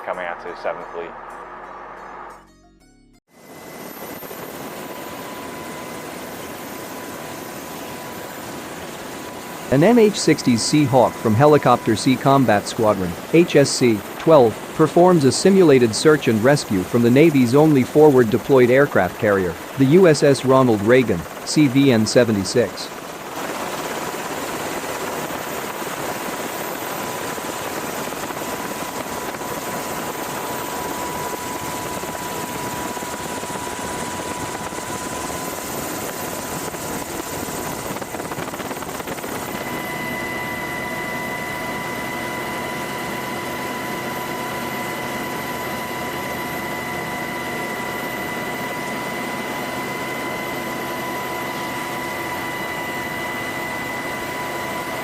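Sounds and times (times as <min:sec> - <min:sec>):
high steady whine: 0:00.0 - 0:02.5, 0:03.4 - 0:55.0
helicopter rotor and turbine: 0:03.3 - 0:55.0.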